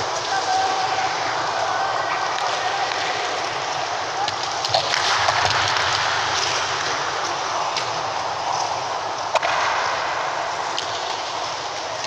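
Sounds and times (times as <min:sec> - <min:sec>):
roller skate wheels rolling: 0:00.0 - 0:12.0
skates clacking on floor: 0:00.0 - 0:12.0.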